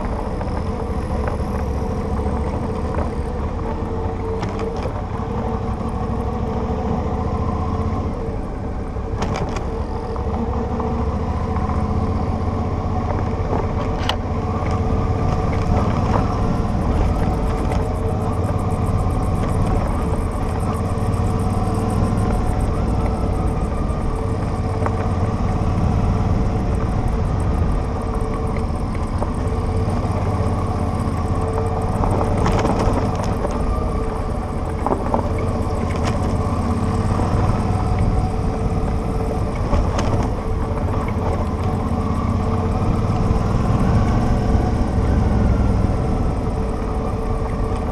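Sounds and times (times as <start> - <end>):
motorcycle engine running: 0.0 - 47.9
road and wind noise: 0.0 - 47.9.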